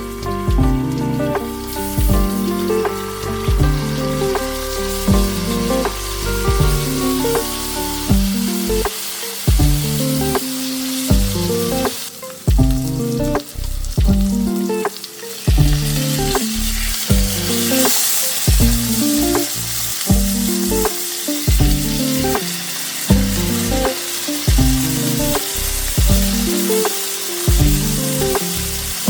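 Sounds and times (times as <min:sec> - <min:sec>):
background music with plucked bass: 0:00.0 - 0:29.0
food sizzling in hot oil: 0:00.0 - 0:29.0.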